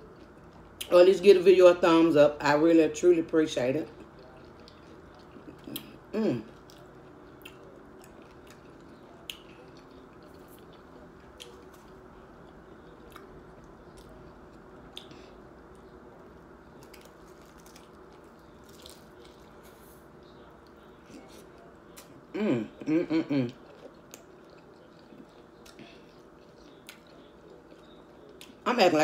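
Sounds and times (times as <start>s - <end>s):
chewing crunchy food: 0.0s - 0.9s, 3.8s - 22.3s, 23.4s - 28.6s.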